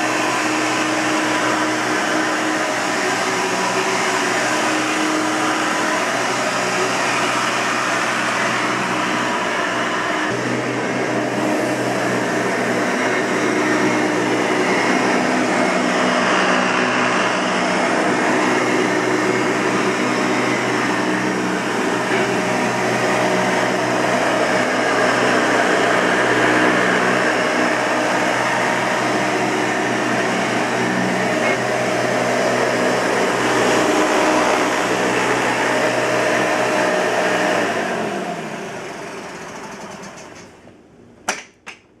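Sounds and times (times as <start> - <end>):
vacuum motor winding down: 0.0 - 40.6
upright vacuum cleaner running: 0.0 - 40.8.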